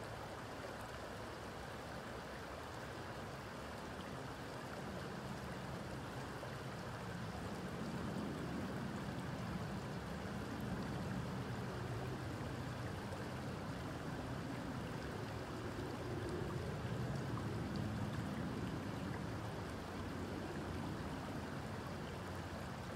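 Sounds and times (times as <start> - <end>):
stream water flowing: 0.0 - 22.9.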